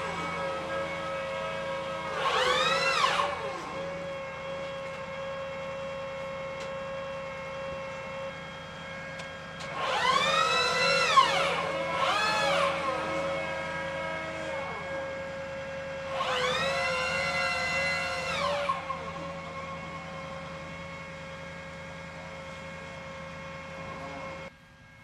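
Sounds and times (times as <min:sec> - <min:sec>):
launcher drive whining: 0:00.0 - 0:24.5
tracked vehicle engine idling: 0:00.0 - 0:25.0.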